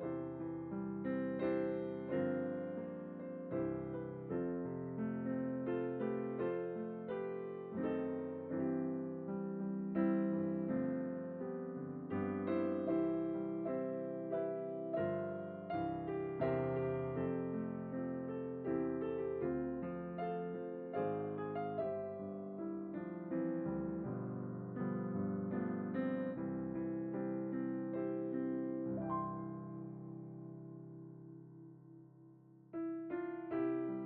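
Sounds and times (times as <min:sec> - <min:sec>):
gentle solo piano piece: 0:00.0 - 0:34.0.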